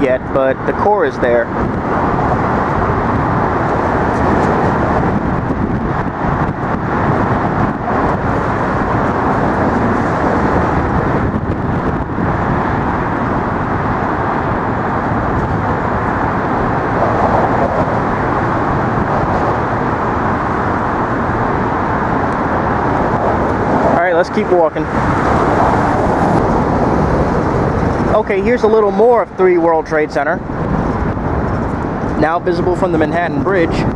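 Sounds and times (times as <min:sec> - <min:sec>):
road traffic on a bridge: 0:00.0 - 0:33.9.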